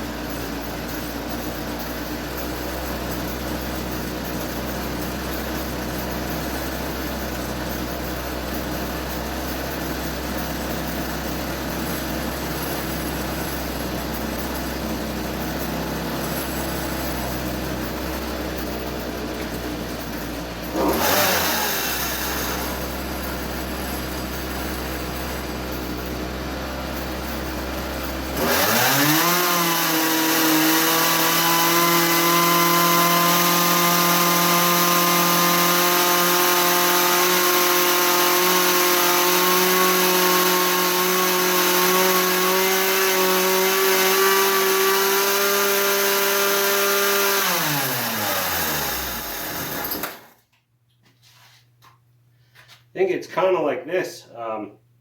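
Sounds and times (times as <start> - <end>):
chainsaw engine revving: 0.0 - 50.4.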